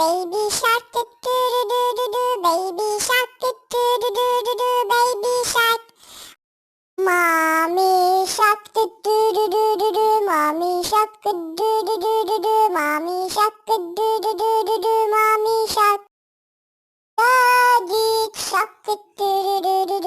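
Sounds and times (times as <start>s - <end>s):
child singing: 0.0s - 6.0s, 7.0s - 16.1s, 17.2s - 20.0s.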